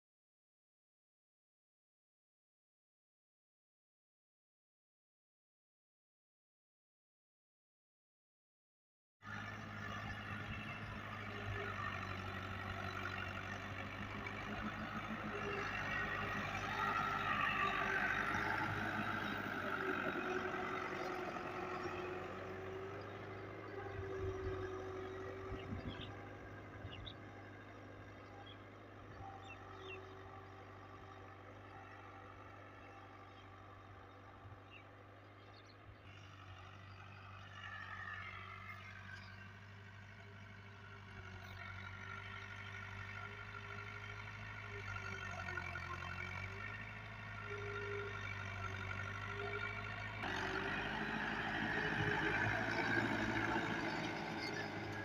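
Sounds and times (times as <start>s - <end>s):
tractor diesel engine under load: 9.2s - 55.0s.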